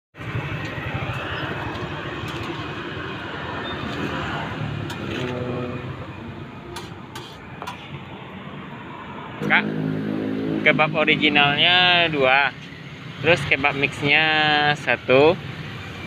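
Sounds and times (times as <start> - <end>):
street traffic: 0.1 - 16.0.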